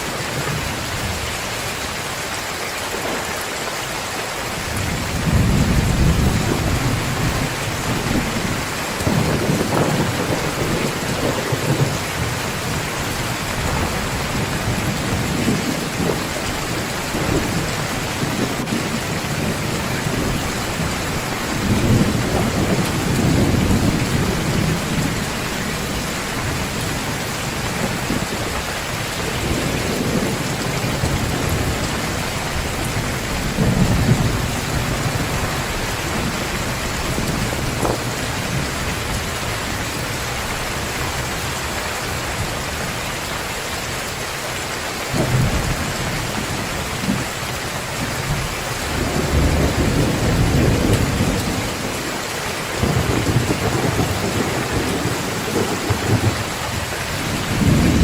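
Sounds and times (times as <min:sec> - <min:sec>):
heavy rain: 0:00.0 - 0:58.0
thunder rumbling: 0:04.4 - 0:43.0, 0:45.1 - 0:58.0.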